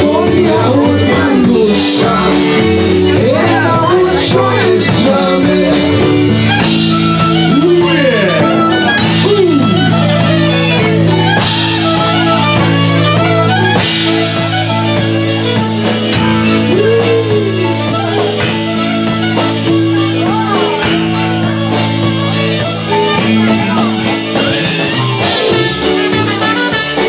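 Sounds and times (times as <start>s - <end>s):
drum kit steady beat: 0.0s - 27.0s
electric bass: 0.0s - 27.0s
electric guitar sliding notes: 0.0s - 27.0s.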